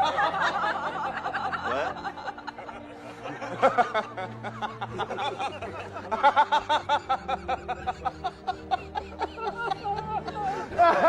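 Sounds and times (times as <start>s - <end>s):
background music: 0.0s - 11.0s
rapid pitched laughter: 0.0s - 11.0s.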